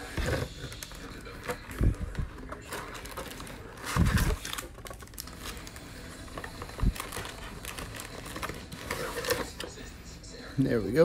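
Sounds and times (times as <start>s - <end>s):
cardboard and card packs rustling: 0.0s - 9.9s.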